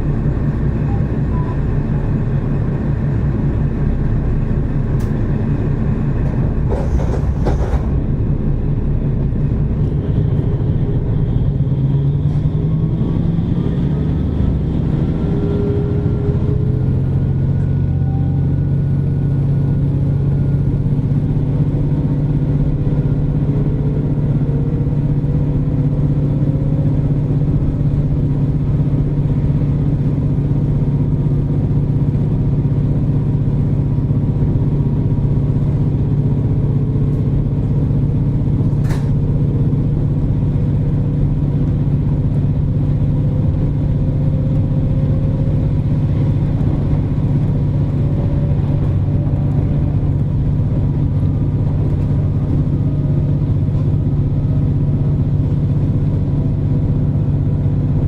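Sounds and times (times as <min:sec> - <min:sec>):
diesel engine drone: 0:00.0 - 0:58.0.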